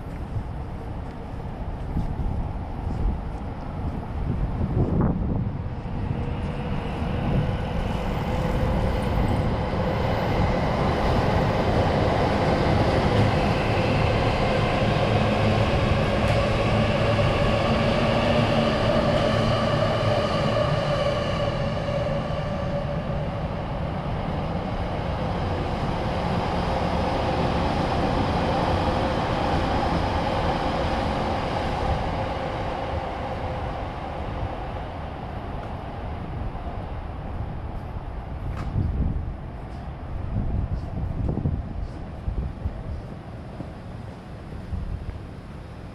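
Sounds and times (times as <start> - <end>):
electric train passing: 0.0 - 45.9.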